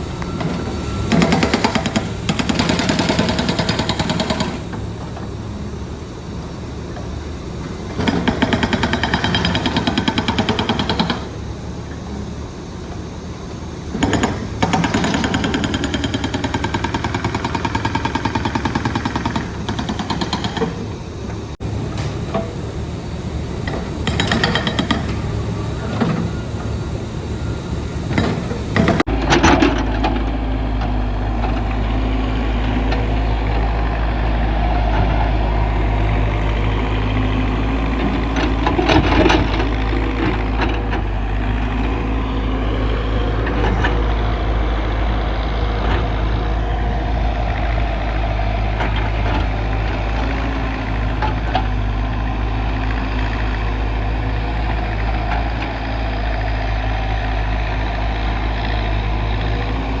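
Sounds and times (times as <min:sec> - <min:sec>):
heavy diesel engine running: 0:00.0 - 1:00.0.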